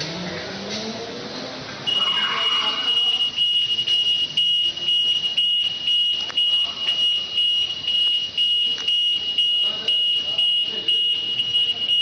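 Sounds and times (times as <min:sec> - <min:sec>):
high-pitched alarm beeping: 0:01.8 - 0:12.0.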